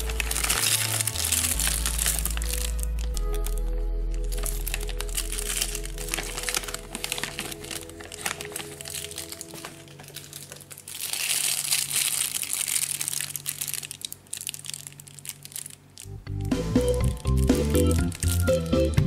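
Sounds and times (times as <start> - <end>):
plastic bag crinkling: 0.0 - 16.1, 17.0 - 19.0.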